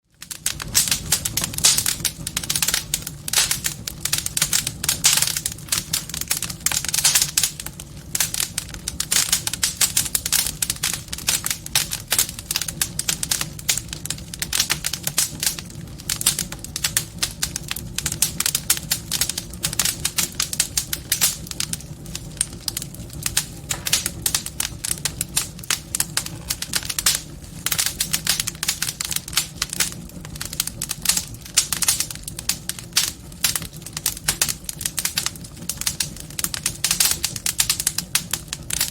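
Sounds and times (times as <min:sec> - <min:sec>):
wood fire crackling: 0:00.0 - 0:38.9
fire pops and snaps: 0:00.1 - 0:38.9.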